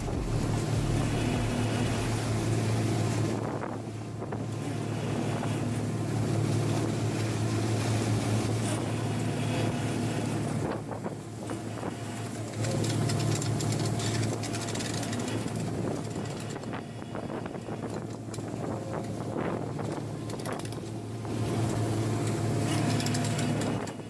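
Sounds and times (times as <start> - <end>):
boat engine droning: 0.0 - 24.0
water noise: 0.0 - 24.0
wind: 0.0 - 24.0.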